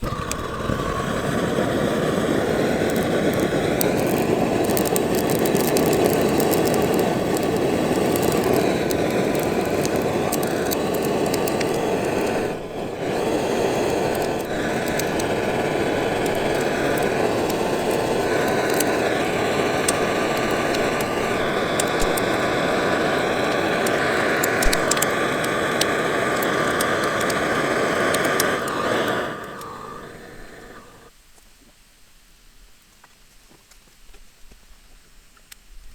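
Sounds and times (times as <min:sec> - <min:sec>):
gas torch burner roaring: 0:00.0 - 0:31.1
wood crackling: 0:00.0 - 0:31.7.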